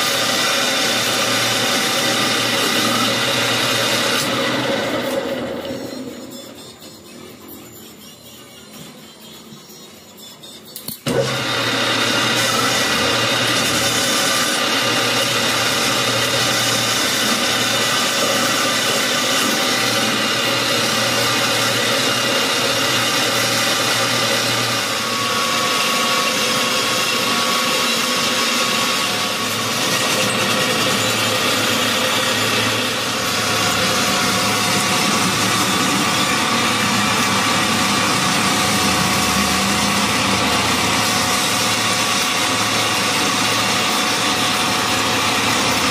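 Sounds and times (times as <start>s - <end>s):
tool scraping metal: 0.0s - 11.2s, 12.0s - 45.9s
metal lathe humming: 0.0s - 45.9s.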